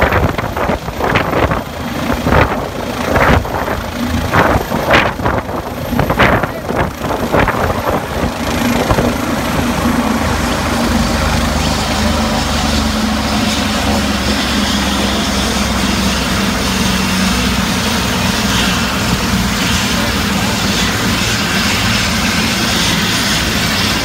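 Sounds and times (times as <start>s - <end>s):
helicopter engine and rotor running: 0.0s - 24.0s.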